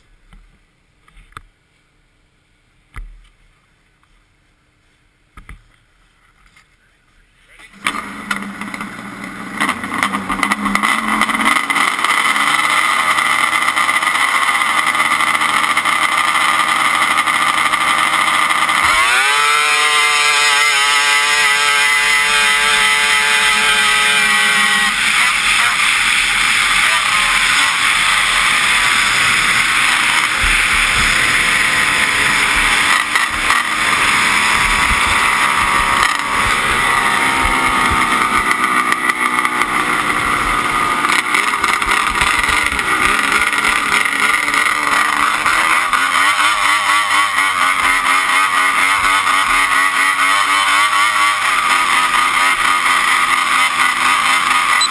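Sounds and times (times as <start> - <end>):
snowmobile track noise: 0.0 - 54.9
snowmobile engine running hard: 7.8 - 54.9.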